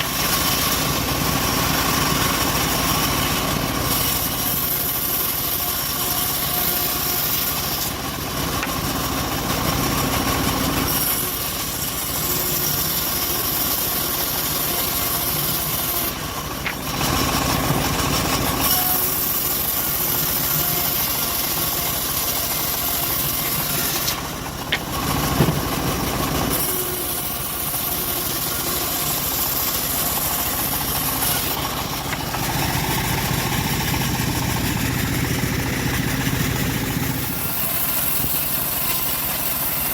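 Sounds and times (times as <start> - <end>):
bandsaw mill engine running: 0.0 - 39.9
saw cutting through log: 0.0 - 39.9.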